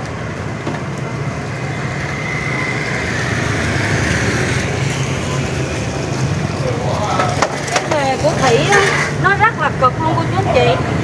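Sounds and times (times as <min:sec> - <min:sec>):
passing traffic hiss: 0:00.0 - 0:11.0.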